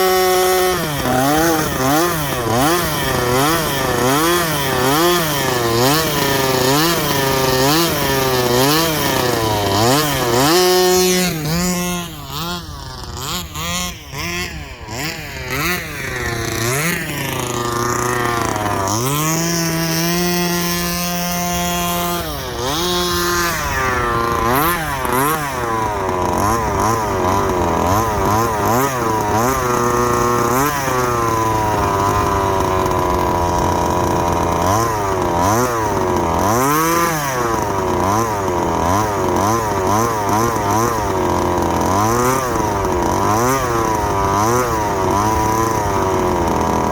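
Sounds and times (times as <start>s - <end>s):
rc car engine revving: 0.0s - 46.9s.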